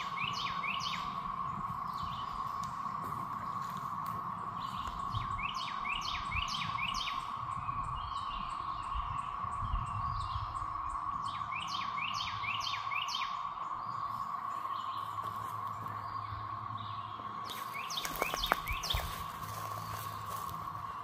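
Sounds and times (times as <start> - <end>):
cicada chorus drone: 0.0 - 21.0
songbird singing: 0.0 - 21.0.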